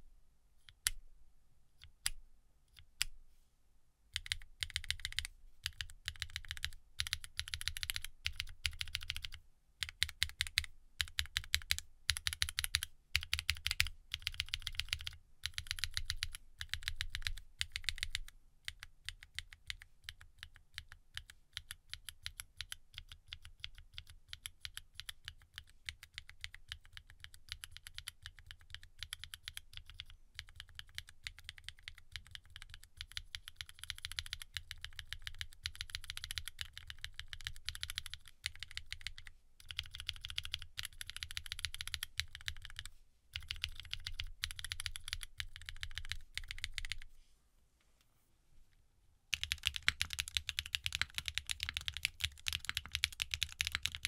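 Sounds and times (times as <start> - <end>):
fast typing on mechanical keyboard: 4.2 - 47.0, 49.3 - 54.0.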